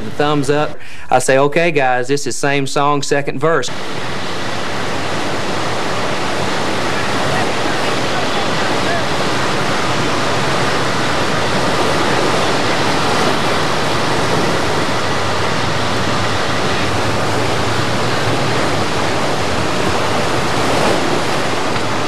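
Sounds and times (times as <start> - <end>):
creek water rushing: 0.0 - 1.3, 3.7 - 22.0.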